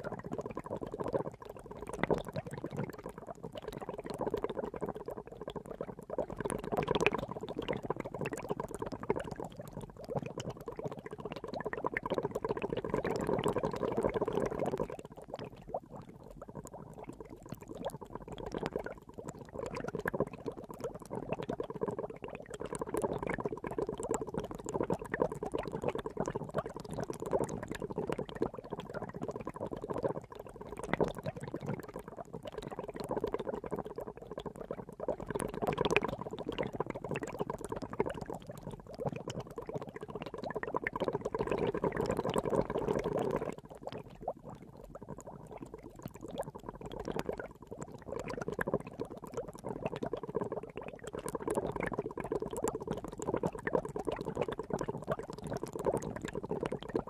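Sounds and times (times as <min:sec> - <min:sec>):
water boiling: 0:00.0 - 0:57.0.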